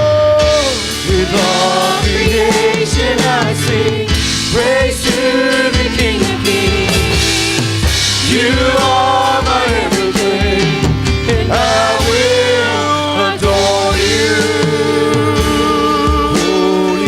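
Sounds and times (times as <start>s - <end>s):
instrumental accompaniment: 0.0s - 17.0s
person singing gospel: 0.0s - 17.0s.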